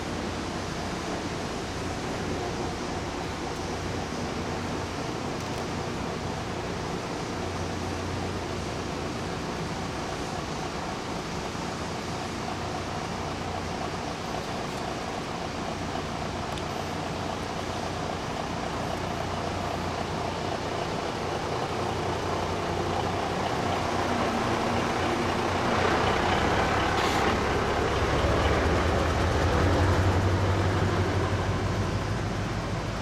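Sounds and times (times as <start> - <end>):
truck hiss: 0.0 - 32.6
diesel truck engines rumbling: 0.0 - 33.0.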